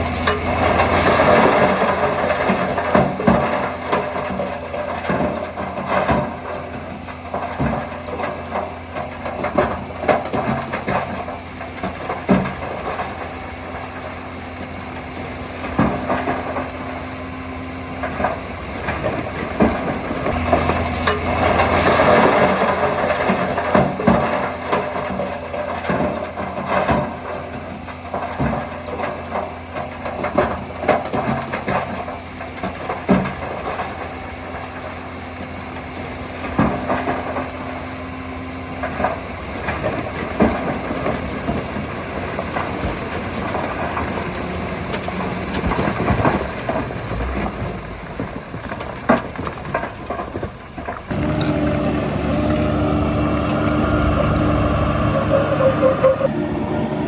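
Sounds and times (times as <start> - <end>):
heavy diesel machine engine: 0.0 - 57.0.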